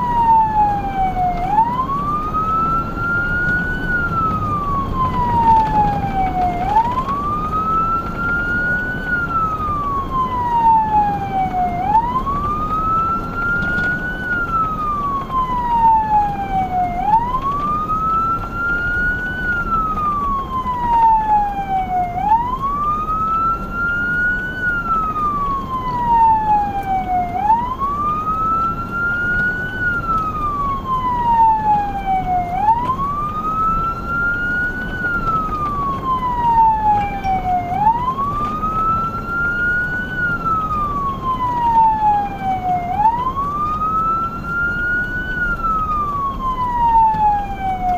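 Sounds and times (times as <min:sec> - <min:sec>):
emergency siren wailing: 0:00.0 - 0:47.9
engine and road noise: 0:00.0 - 0:47.9.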